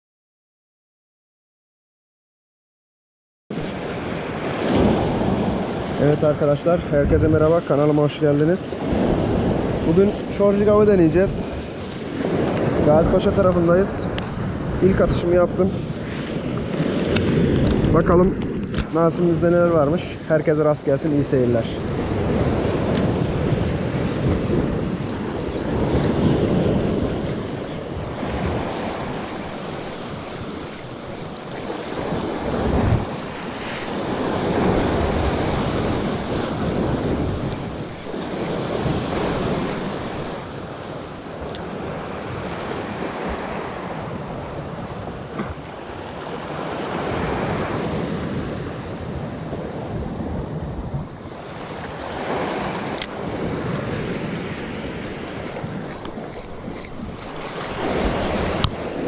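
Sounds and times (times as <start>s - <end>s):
sea waves breaking on rocks: 3.6s - 48.5s, 50.2s - 59.0s
wind buffeting microphone: 3.6s - 59.0s.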